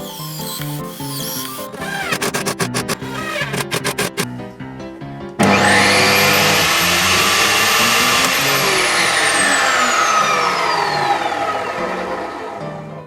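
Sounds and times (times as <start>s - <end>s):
table saw motor whine: 0.0s - 4.3s, 5.4s - 13.0s.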